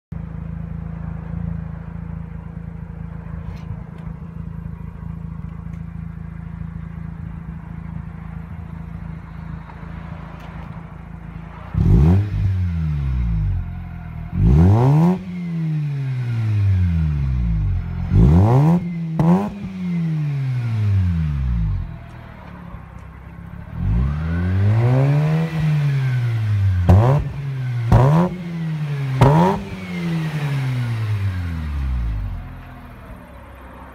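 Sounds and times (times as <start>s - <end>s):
rotary engine idling and revving: 0.1s - 33.9s.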